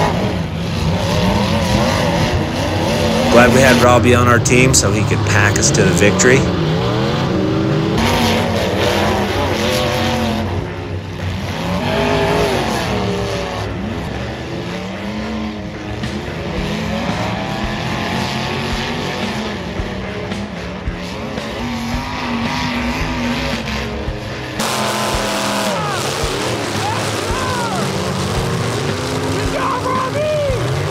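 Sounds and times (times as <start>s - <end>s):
car engines revving hard: 0.0s - 30.9s.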